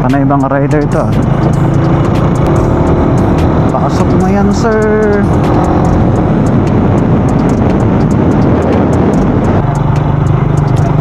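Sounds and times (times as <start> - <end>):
motorcycle engine: 0.0 - 11.0
wind noise on microphone: 1.2 - 11.0.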